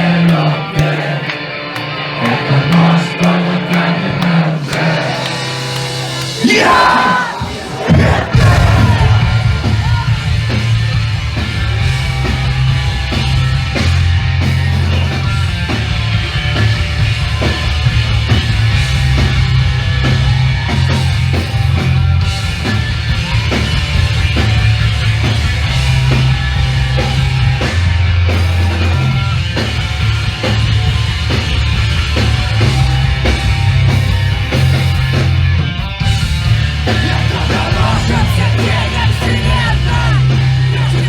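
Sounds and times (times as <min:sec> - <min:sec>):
bass guitar: 0:00.0 - 0:41.0
distorted electric guitars: 0:00.0 - 0:41.0
driving drum beat: 0:02.7 - 0:41.0.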